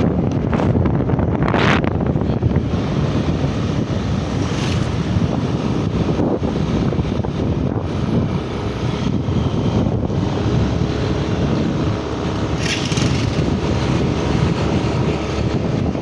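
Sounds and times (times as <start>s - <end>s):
wind rushing over microphone: 0.0s - 16.0s
motorcycle engine running: 1.5s - 16.0s.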